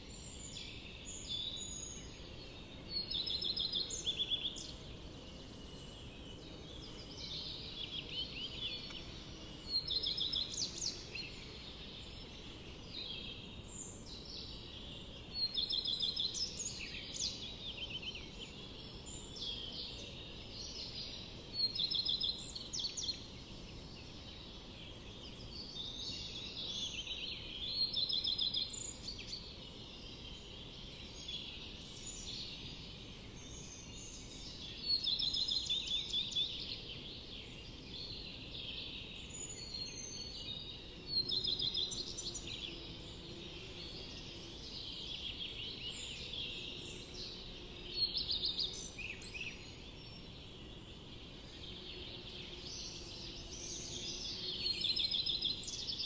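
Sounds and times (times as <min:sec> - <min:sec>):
songbirds trilling: 0:00.0 - 0:56.0
steady low background noise: 0:00.0 - 0:56.0.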